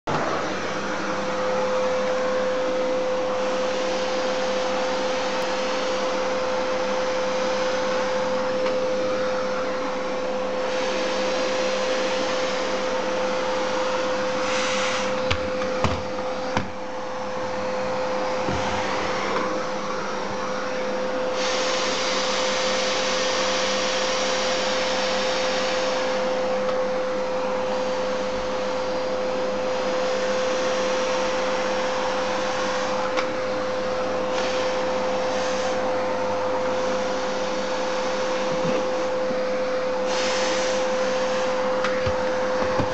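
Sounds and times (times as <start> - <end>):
vacuum cleaner running: 0.1 - 42.9.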